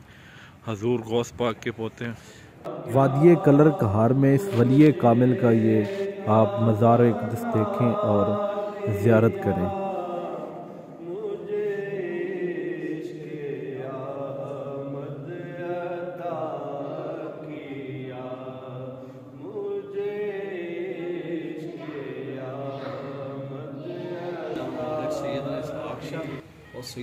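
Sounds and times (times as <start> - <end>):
man chanting: 2.7 - 26.4.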